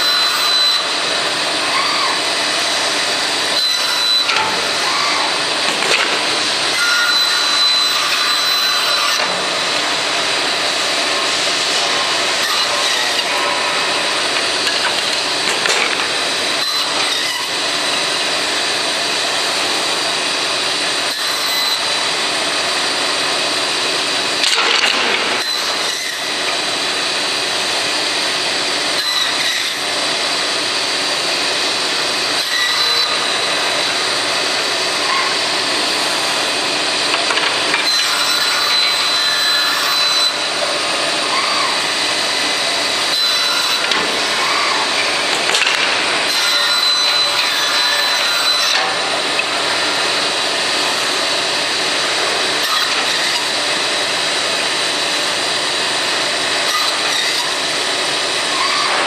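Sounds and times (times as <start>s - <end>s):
band saw whirring: 0.0s - 59.0s.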